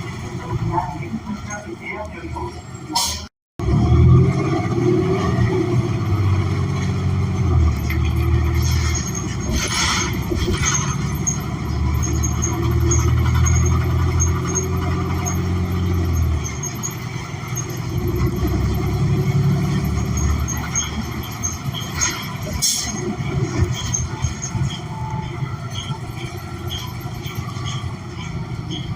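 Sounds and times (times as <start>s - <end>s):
bus engine droning: 0.0s - 28.9s.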